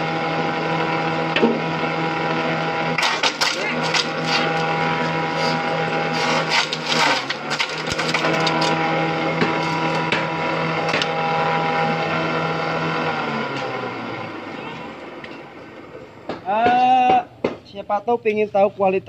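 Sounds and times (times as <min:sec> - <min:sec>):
grass chopper humming: 0:00.0 - 0:15.4.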